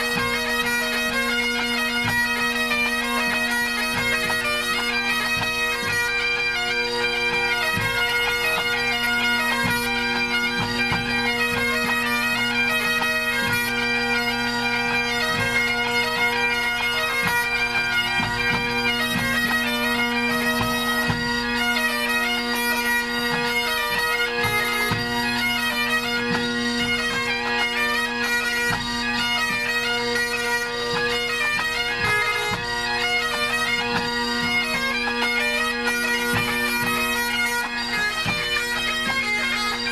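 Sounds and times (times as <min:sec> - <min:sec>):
bagpipe chanter notes: 0:00.0 - 0:39.9
bagpipe drones: 0:00.0 - 0:39.9.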